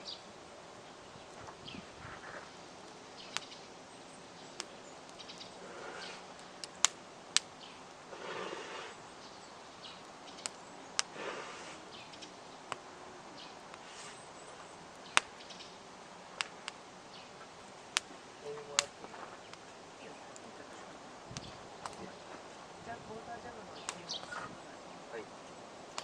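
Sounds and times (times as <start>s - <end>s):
low hiss: 0.0s - 26.0s
campfire crackling and popping: 0.1s - 26.0s.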